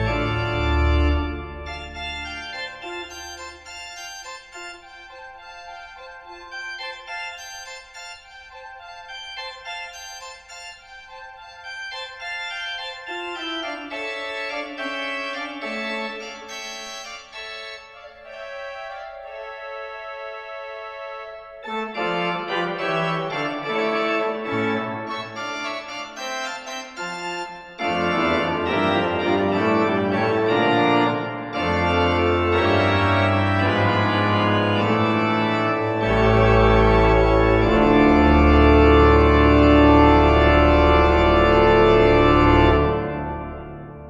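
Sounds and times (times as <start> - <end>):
pipe organ playing: 0.0 - 44.0.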